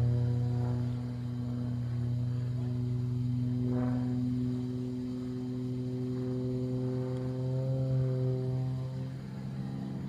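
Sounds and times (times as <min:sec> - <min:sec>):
airplane engine and propeller droning: 0:00.0 - 0:10.0.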